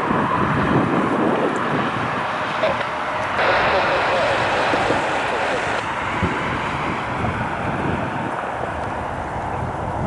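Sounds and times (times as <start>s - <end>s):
jet engine noise: 0.0s - 10.0s
wind buffeting microphone: 0.0s - 10.0s.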